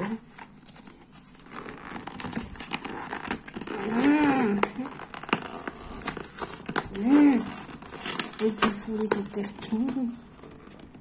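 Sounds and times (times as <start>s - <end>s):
cardboard tearing: 0.0s - 11.0s.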